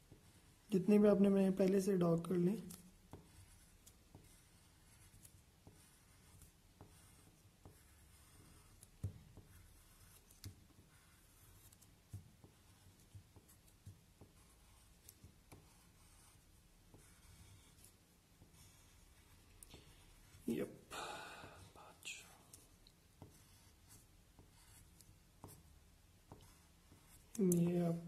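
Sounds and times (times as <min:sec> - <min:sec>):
pencil scratching on paper: 0:00.0 - 0:20.6, 0:21.5 - 0:28.0.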